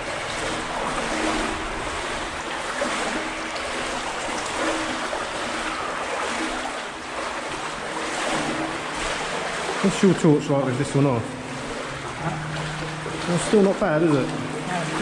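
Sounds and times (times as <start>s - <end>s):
water sloshing around legs: 0.0s - 15.0s.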